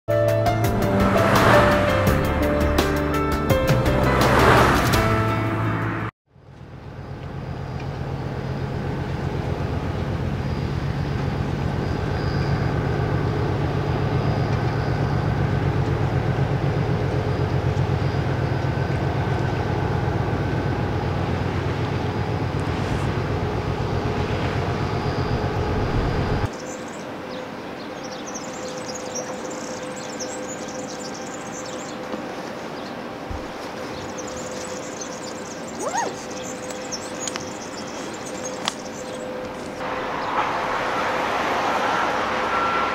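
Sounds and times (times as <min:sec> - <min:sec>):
diesel engine droning: 0:00.1 - 0:26.5, 0:33.2 - 0:42.9
harbour ambience: 0:00.1 - 0:42.9.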